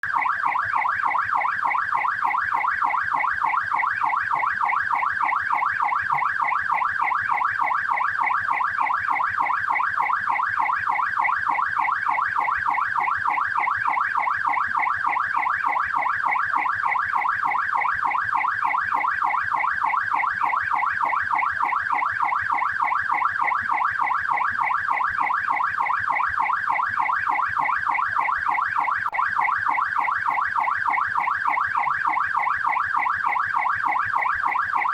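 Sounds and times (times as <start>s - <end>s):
police siren yelp: 0.0s - 34.9s.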